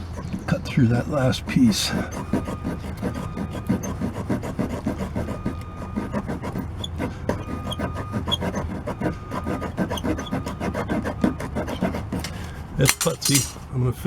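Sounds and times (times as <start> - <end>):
hacksaw sawing wood: 0.0 - 13.6.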